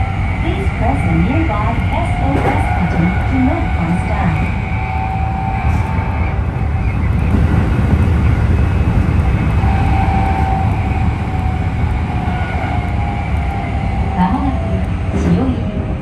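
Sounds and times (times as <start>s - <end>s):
train motor low rumble: 0.0s - 16.0s.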